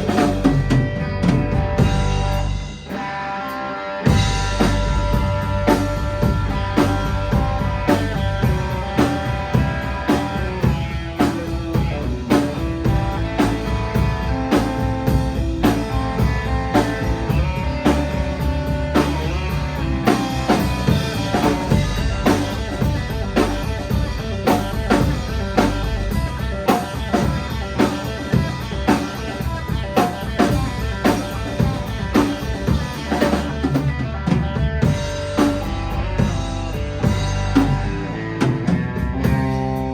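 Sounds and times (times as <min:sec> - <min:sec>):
drum kit steady beat: 0:00.0 - 0:39.9
guitar: 0:00.0 - 0:39.9.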